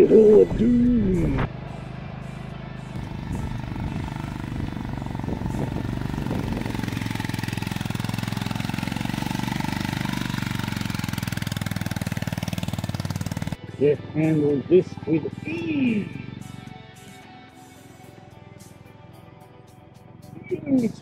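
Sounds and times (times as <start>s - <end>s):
motorcycle engine climbing hill: 0.0s - 21.0s.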